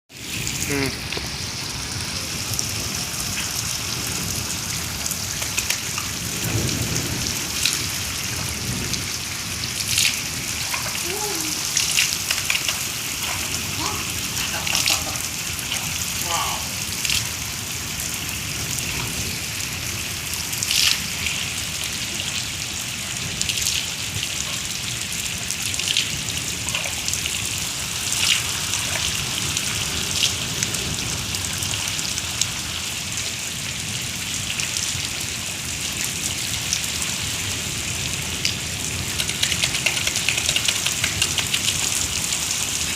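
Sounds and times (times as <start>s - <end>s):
rain falling: 0.1s - 42.9s
raindrop hitting close by: 0.1s - 42.9s.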